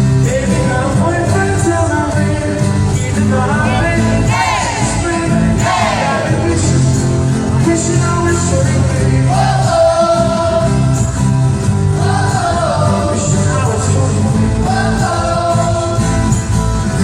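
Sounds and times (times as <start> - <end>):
bass notes: 0.0 - 17.0
live pop-rock band playing: 0.0 - 17.0.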